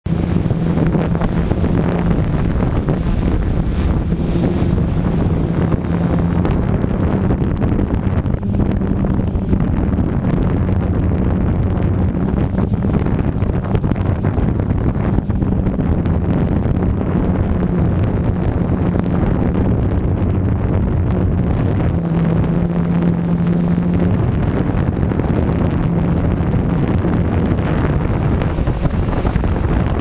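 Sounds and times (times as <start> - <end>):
model aircraft motor humming: 0.0 - 30.0
wind rush on microphone: 0.0 - 30.0.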